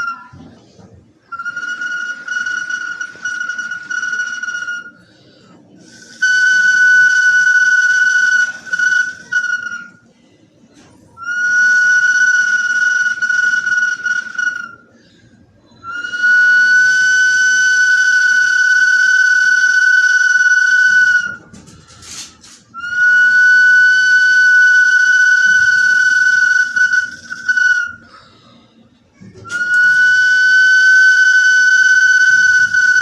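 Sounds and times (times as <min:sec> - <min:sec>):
high-pitched bottle whistle: 0:00.0 - 0:05.1, 0:05.8 - 0:10.1, 0:10.8 - 0:15.0, 0:15.6 - 0:28.3, 0:29.2 - 0:33.0.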